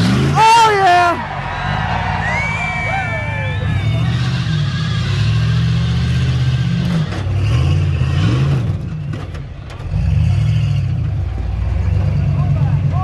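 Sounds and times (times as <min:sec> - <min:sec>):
vehicle engine revving: 0:00.0 - 0:00.6, 0:01.4 - 0:13.0.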